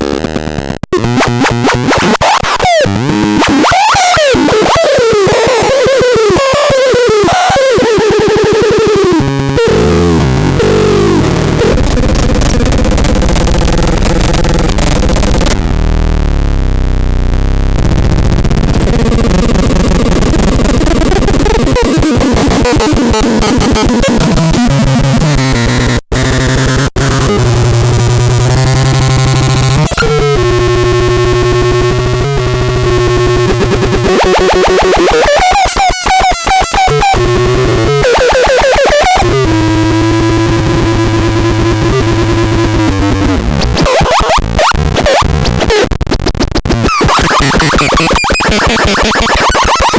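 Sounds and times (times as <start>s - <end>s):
buzzing synthesizer tones: 0.0s - 49.9s.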